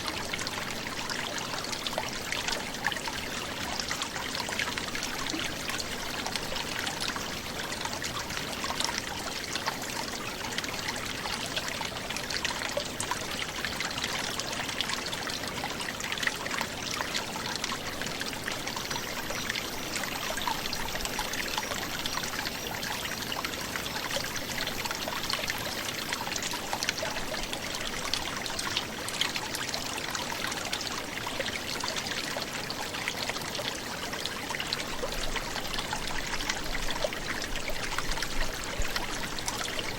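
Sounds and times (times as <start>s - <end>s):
brook gurgling over stones: 0.0s - 39.9s.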